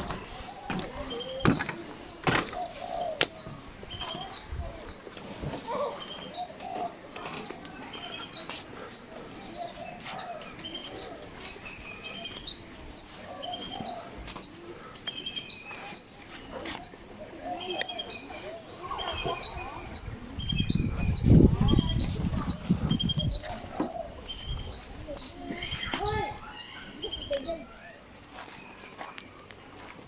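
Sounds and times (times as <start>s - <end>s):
birds chirping high: 0.0s - 28.9s.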